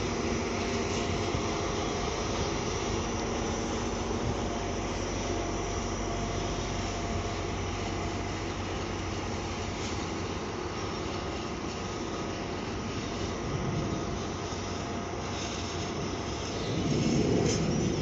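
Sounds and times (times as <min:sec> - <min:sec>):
diesel locomotive engine droning: 0:00.0 - 0:18.0.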